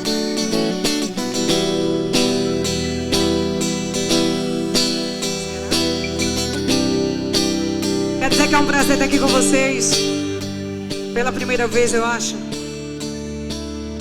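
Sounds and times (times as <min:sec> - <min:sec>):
band playing guitar solo: 0:00.0 - 0:14.0.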